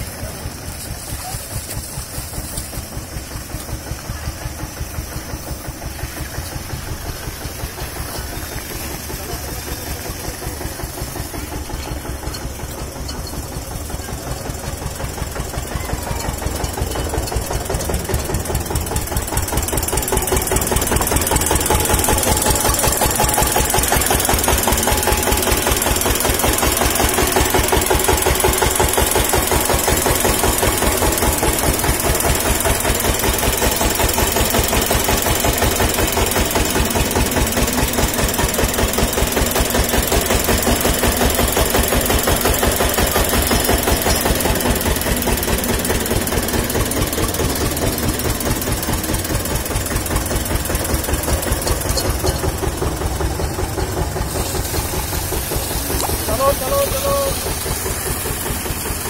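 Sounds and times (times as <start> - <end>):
tractor diesel engine knocking: 0.0 - 59.0.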